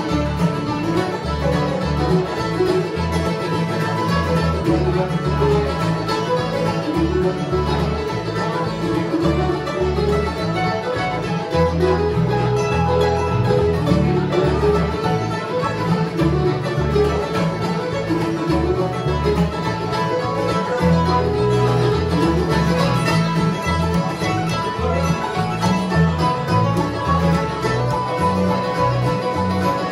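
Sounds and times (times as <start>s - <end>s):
accordion: 0.0s - 29.9s
acoustic guitar: 0.0s - 29.9s
banjo: 0.0s - 29.9s
mandolin: 0.0s - 29.9s
upright bass walking: 0.0s - 29.9s.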